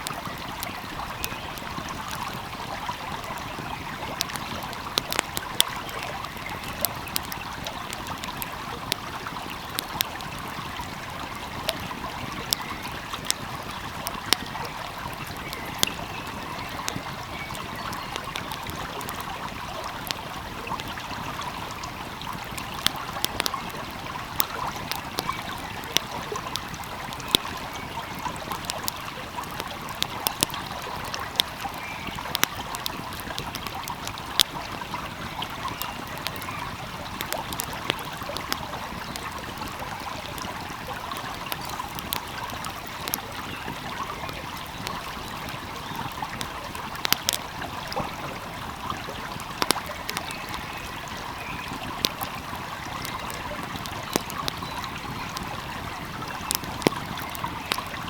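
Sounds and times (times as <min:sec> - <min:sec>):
stream flowing: 0:00.0 - 0:58.0
wood fire crackling: 0:00.0 - 0:58.0.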